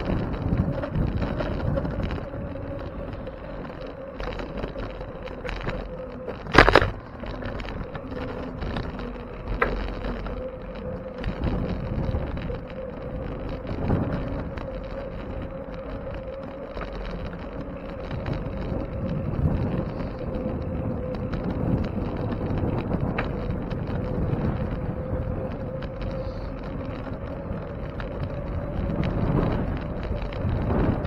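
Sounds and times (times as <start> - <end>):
faint steady hum: 0.0 - 31.0
wind buffeting microphone: 0.0 - 31.0.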